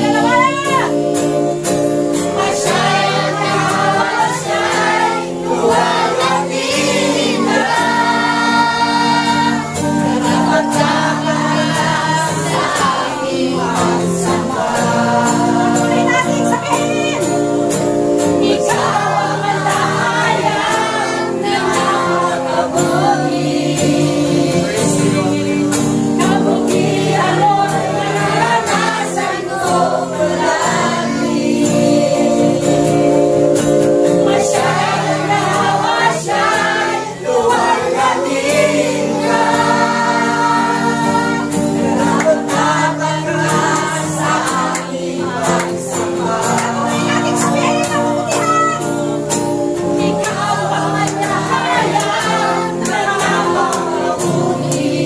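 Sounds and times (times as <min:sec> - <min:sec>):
backing music: 0:00.0 - 0:55.0
congregation singing: 0:00.0 - 0:55.0.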